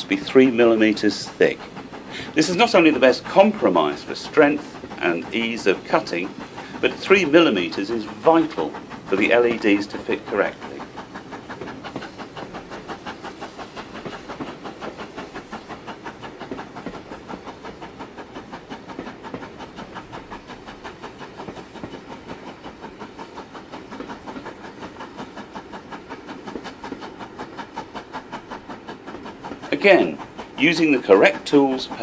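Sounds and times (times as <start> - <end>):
train clattering rhythmically: 0.0 - 32.0.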